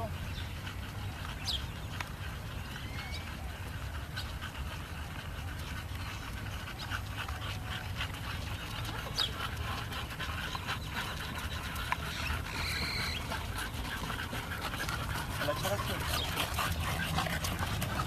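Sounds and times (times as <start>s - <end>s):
dogs panting: 0.0s - 18.0s.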